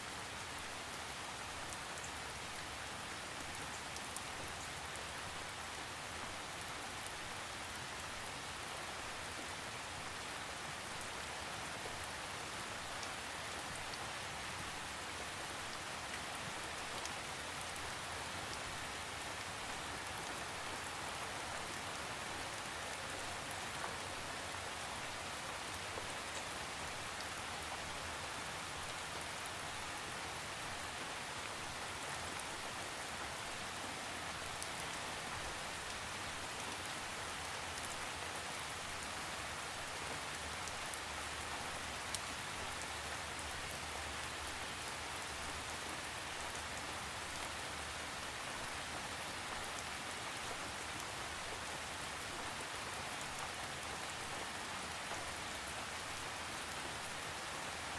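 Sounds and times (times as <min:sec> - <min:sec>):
rain pattering on a surface: 0:00.0 - 0:57.9.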